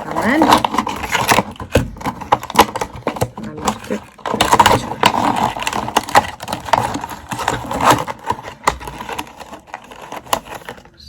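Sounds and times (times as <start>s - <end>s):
clicks and knocks of handled items: 0.0s - 11.0s
packaging crinkling and rustling: 0.0s - 11.0s.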